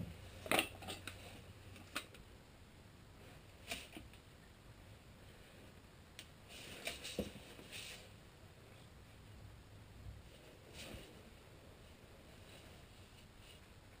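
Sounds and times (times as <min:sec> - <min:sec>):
low room noise: 0:00.0 - 0:14.0.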